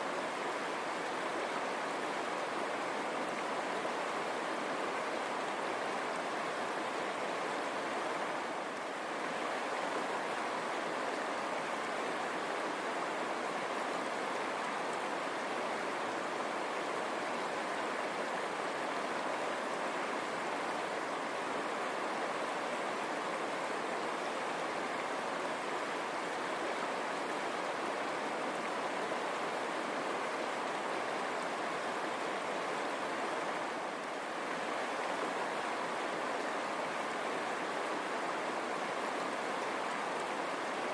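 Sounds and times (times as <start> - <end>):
river running over stones: 0.0 - 40.9.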